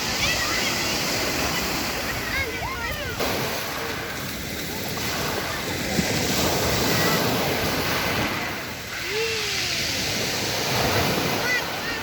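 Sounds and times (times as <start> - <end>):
waves on a pebble beach: 0.0 - 12.0.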